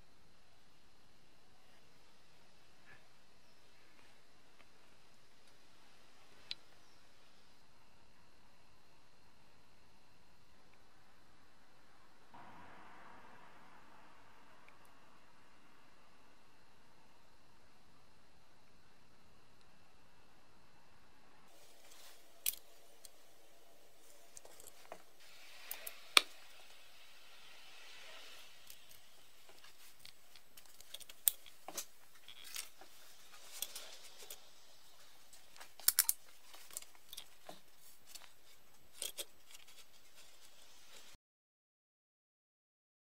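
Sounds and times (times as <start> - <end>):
soft hiss: 0.0 - 41.2.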